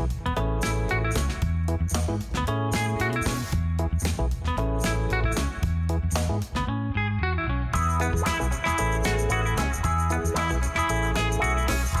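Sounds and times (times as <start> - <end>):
bass: 0.0 - 12.0
guitar: 0.0 - 12.0.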